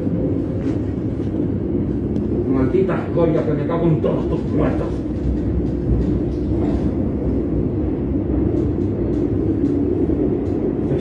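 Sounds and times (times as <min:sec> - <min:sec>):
metro train rumbling: 0:00.0 - 0:11.0.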